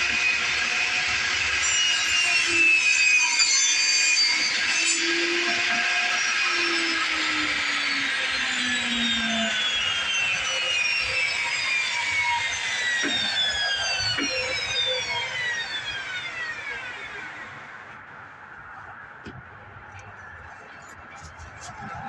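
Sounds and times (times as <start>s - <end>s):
power saw winding down: 0.0s - 18.0s.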